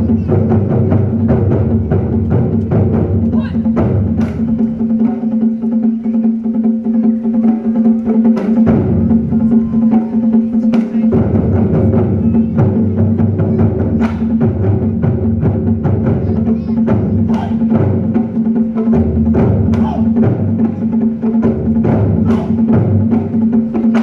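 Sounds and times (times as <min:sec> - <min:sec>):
deep drums rumbling: 0:00.0 - 0:06.8, 0:07.5 - 0:24.0.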